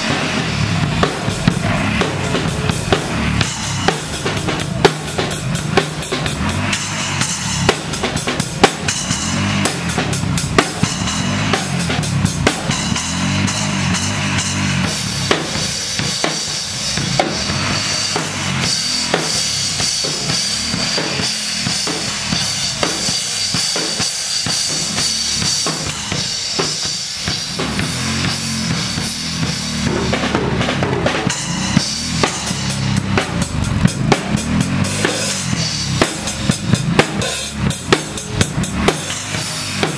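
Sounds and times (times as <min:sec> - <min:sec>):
bass drum: 0:00.0 - 0:39.9
cymbals: 0:00.0 - 0:39.9.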